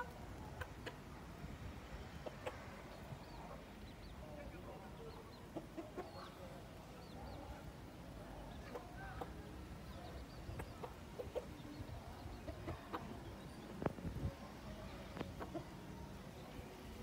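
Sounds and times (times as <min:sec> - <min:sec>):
chickens clucking softly: 0:00.0 - 0:17.0.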